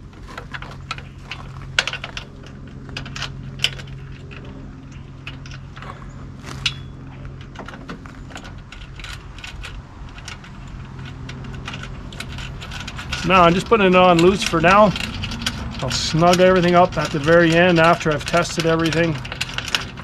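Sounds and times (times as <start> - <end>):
low hum: 0.0 - 20.0
metal hardware clinking: 0.3 - 20.0.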